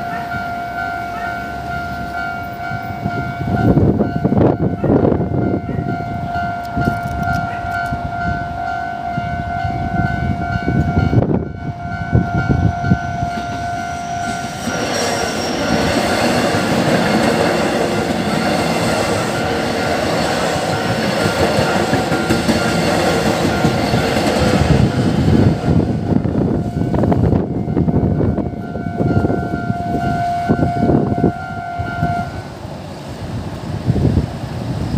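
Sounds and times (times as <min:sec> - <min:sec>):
level-crossing warning bell: 0:00.0 - 0:32.7
electric train passing: 0:00.0 - 0:34.9.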